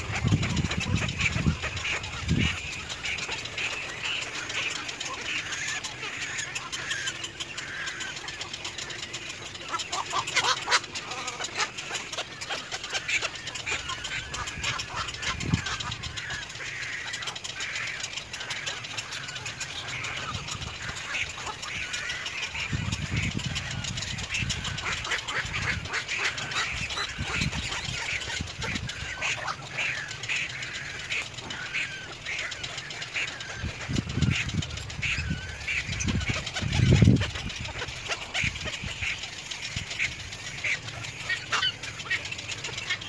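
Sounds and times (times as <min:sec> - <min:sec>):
bird clicking calls: 0:00.0 - 0:43.0
herons squawking: 0:00.0 - 0:43.0.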